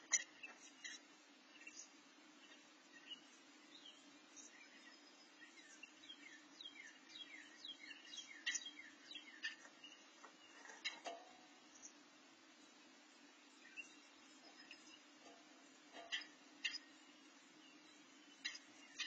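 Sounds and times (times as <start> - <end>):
nestlings chirping: 0.0 - 12.0, 13.5 - 19.0
steady low hum: 0.0 - 19.0.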